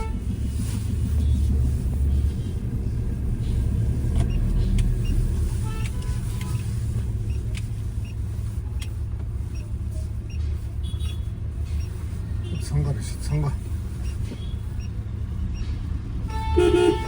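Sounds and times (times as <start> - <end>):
engine and road noise rumble: 0.0 - 17.0.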